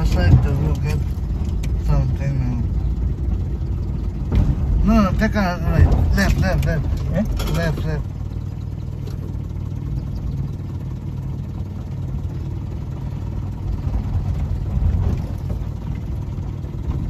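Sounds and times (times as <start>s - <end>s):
car engine running at low speed: 0.0s - 17.0s.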